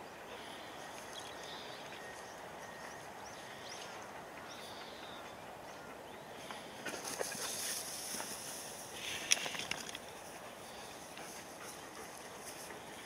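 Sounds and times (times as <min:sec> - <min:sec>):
open field ambience: 0:00.0 - 0:13.0.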